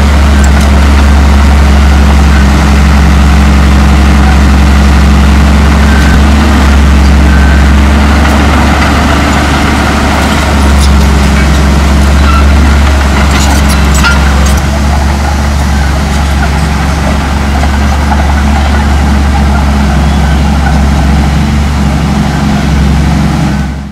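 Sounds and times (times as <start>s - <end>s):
dozer diesel engine running: 0.0s - 23.9s.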